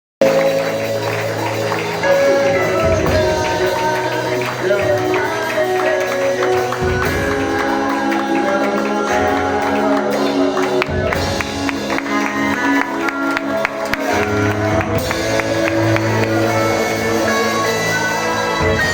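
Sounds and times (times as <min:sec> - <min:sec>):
bass line: 0:00.2 - 0:18.9.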